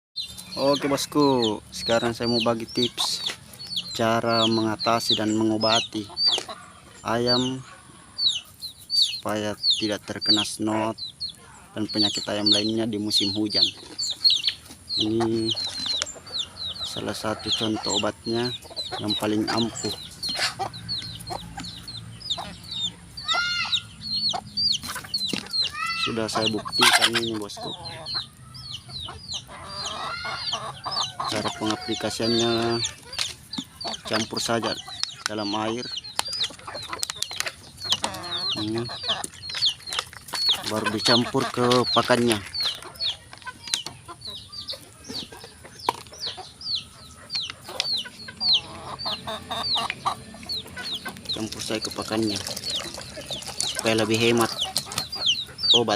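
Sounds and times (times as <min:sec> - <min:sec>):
chickens clucking and peeping: 0:00.2 - 0:55.9.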